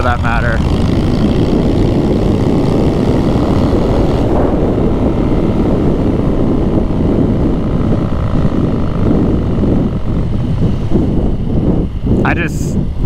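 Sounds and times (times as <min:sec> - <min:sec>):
motorcycle engine running: 0:00.0 - 0:13.0
wind rush: 0:00.0 - 0:13.0.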